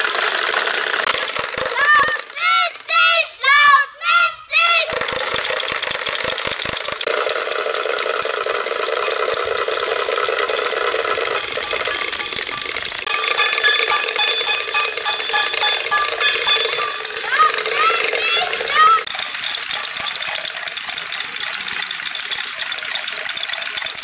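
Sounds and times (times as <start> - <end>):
wooden rattles clattering: 0.0 - 3.2, 4.9 - 24.0.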